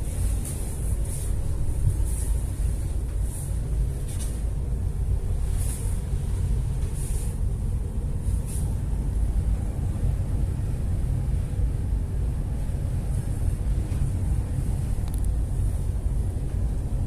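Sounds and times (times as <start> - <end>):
faint engine hum: 0.0 - 17.0
ship rumbling under way: 0.0 - 17.0.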